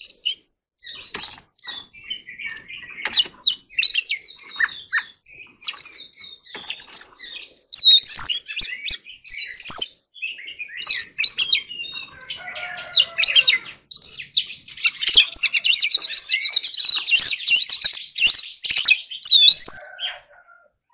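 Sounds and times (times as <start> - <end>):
bird singing whistled phrases: 0.0 - 20.0.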